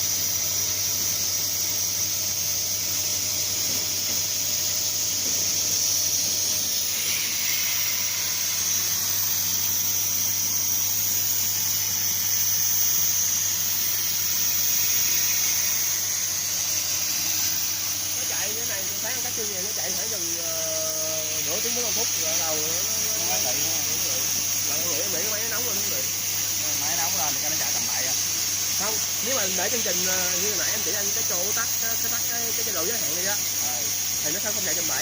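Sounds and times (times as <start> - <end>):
plasma torch hissing: 0.0 - 35.0.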